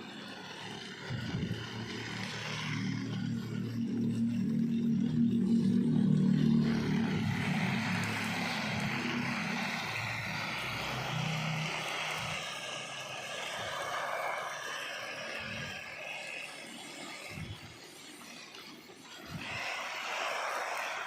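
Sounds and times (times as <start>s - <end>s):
low motor drone: 0.0s - 21.0s
water spraying onto plants: 0.0s - 21.0s.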